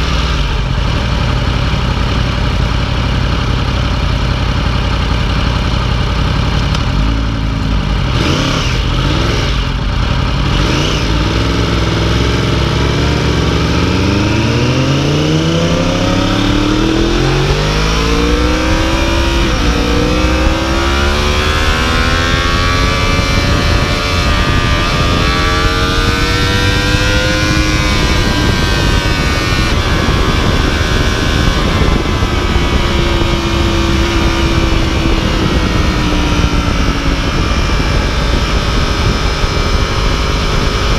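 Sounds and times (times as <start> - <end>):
motorcycle engine accelerating: 0.0 - 40.9
wind noise: 5.0 - 40.9.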